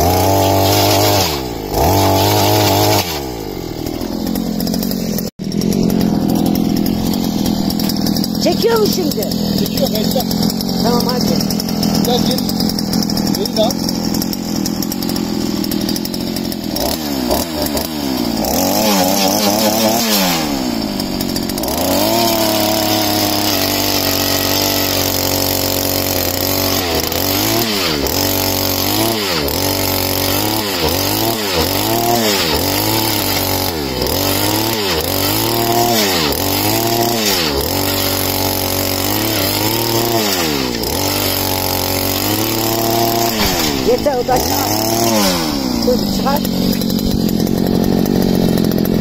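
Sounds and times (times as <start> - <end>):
earth auger engine running hard: 0.0 - 49.0.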